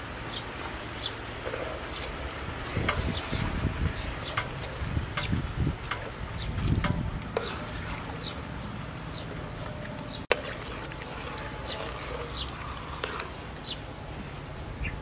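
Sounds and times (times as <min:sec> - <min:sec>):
birds chirping: 0:00.2 - 0:15.0.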